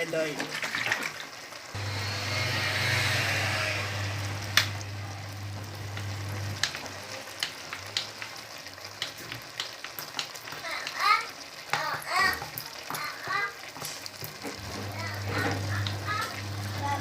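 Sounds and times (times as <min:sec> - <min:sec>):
porridge hissing and sizzling: 0:00.0 - 0:17.0.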